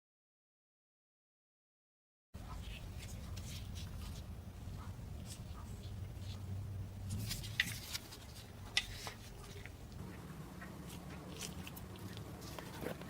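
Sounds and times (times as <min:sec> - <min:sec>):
low steady hum: 0:02.4 - 0:13.0.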